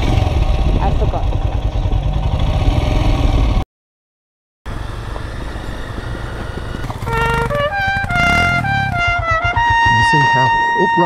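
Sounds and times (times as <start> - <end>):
motorcycle engine running: 0.0 - 3.6, 4.7 - 10.6
motorcycle riding on dirt track: 0.0 - 3.6, 4.7 - 10.7.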